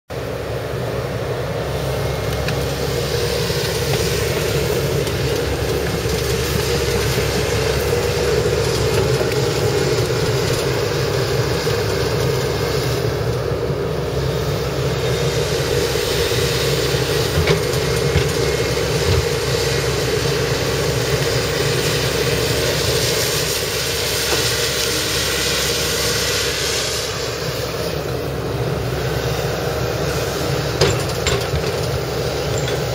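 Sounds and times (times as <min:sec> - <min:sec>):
excavator diesel engine: 0:00.1 - 0:32.9.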